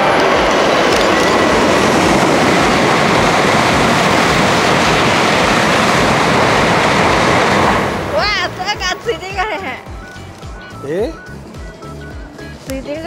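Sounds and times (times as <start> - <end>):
high-speed train passing: 0.0 - 13.0.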